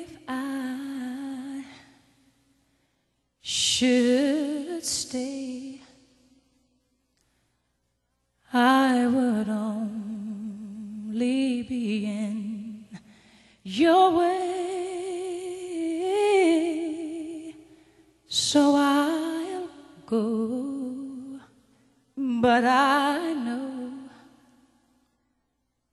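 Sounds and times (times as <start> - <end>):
slow song with vibrato singing: 0.0 - 25.8.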